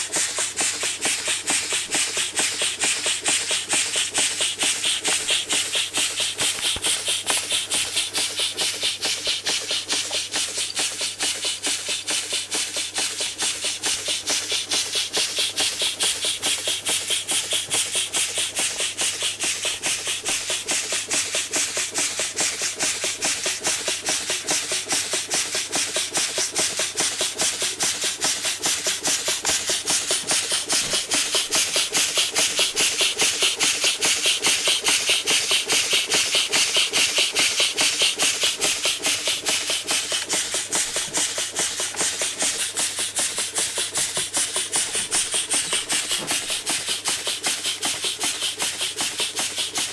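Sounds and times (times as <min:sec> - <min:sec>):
toy steam engine puffing: 0:00.0 - 0:49.9.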